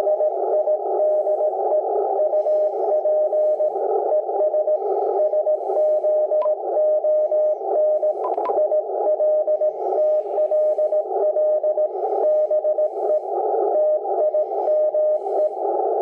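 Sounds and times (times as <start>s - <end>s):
morse code tone: 0.0s - 15.7s.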